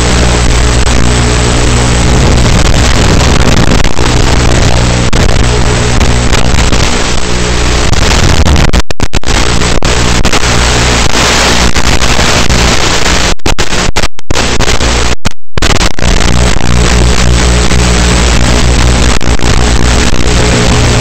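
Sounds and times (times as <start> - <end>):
harsh static hiss: 0.0 - 21.0
steady low buzz: 0.0 - 21.0.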